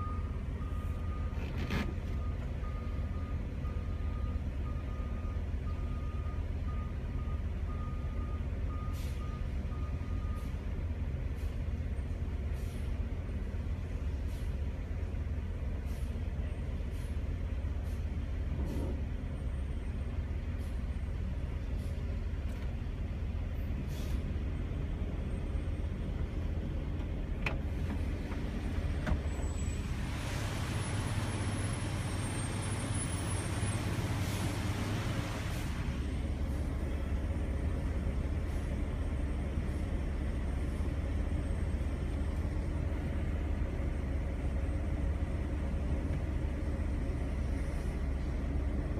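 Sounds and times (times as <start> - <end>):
vehicle engines idling: 0.0 - 48.9.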